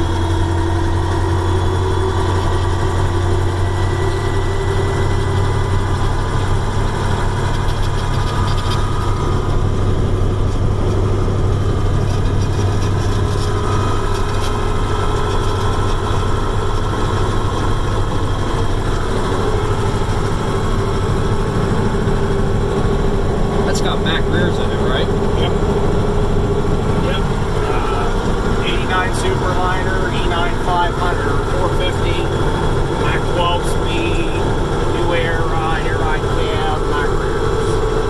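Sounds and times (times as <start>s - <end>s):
diesel truck engine from inside cab: 0.0s - 38.0s.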